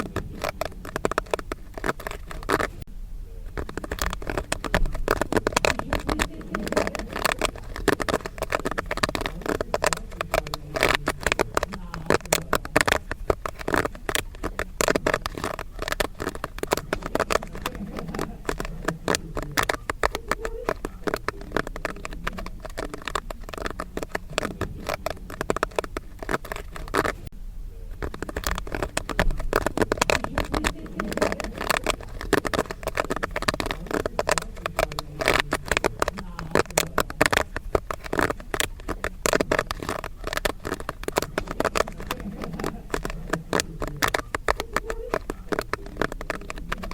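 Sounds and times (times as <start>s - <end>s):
popcorn popping: 0.0s - 46.9s.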